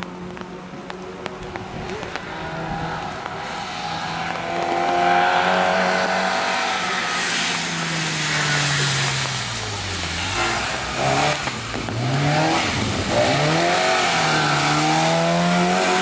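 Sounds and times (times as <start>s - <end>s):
rally car engine at high revs: 0.0s - 16.0s
tyres hissing on wet road: 0.0s - 16.0s.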